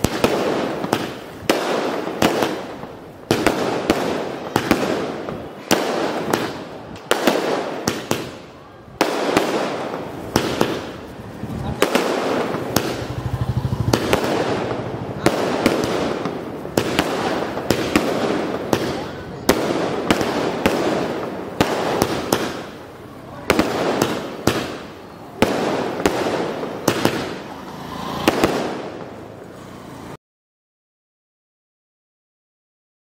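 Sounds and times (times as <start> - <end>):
fireworks bangs: 0.0 - 30.2.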